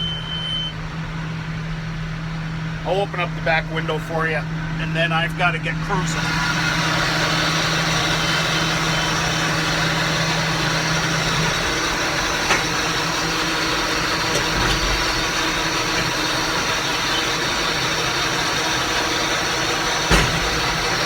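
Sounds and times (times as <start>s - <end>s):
round baler working: 0.0s - 21.0s
tractor engine running: 0.0s - 21.0s.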